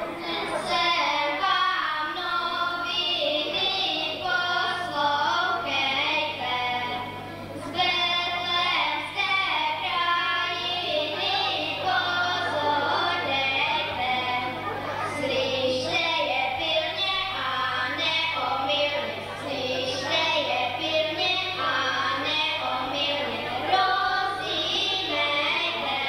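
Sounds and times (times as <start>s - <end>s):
children singing into microphone: 0.0s - 26.0s
faint low hum: 0.0s - 26.0s.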